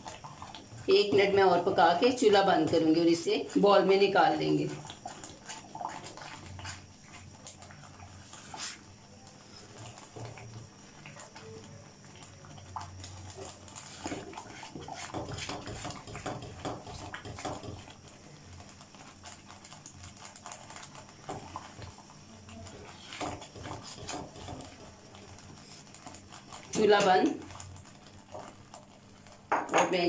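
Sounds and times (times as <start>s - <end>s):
thick pudding bubbling in a pan: 0.0s - 30.0s.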